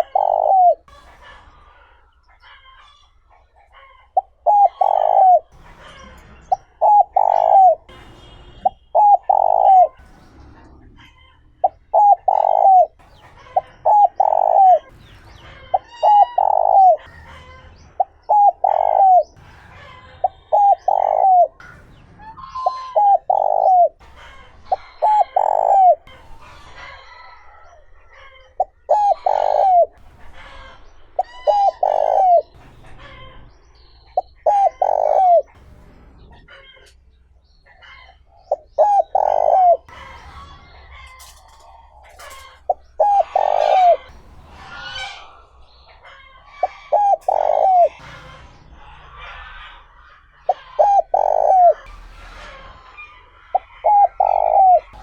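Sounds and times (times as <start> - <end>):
dove cooing: 0.0 - 3.0, 3.7 - 17.2, 18.0 - 21.8, 22.4 - 30.0, 31.2 - 33.3, 34.1 - 35.6, 37.8 - 40.2, 41.0 - 48.2, 48.8 - 52.0, 52.8 - 55.0
small birds chirping: 0.0 - 52.0, 52.7 - 55.0.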